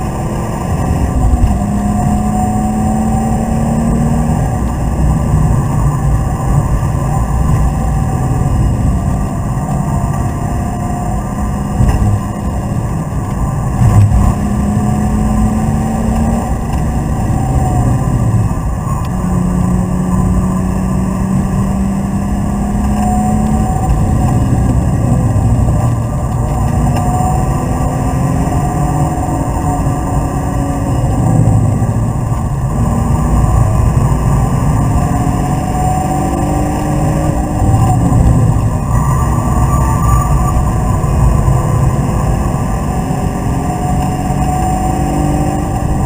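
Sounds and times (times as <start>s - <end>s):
car engine pulling hard: 0.0s - 46.0s
road and wind noise: 0.0s - 46.0s.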